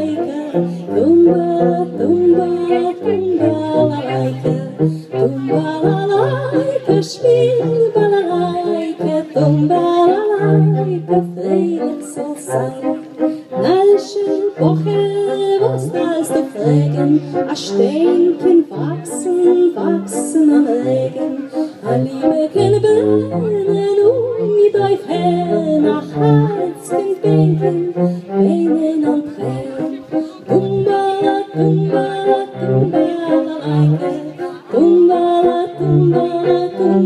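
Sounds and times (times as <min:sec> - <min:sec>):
musical accompaniment with bass: 0:00.0 - 0:37.0
woman singing into microphone: 0:00.0 - 0:37.0.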